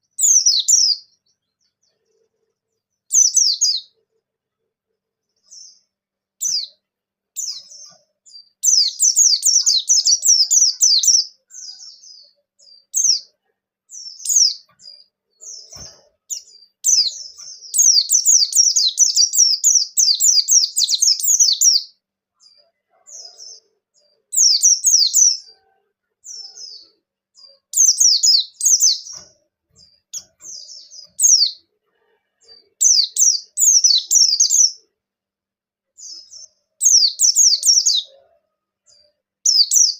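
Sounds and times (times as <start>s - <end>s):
bird singing high chirps: 0.0s - 2.3s, 3.0s - 4.0s, 5.4s - 6.8s, 7.4s - 25.6s, 26.2s - 31.7s, 32.4s - 34.9s, 36.0s - 38.2s, 38.9s - 39.9s.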